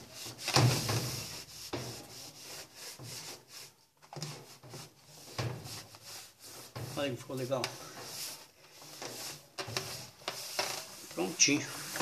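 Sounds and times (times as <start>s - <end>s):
wet cloth rubbing metal tub: 0.0s - 12.0s.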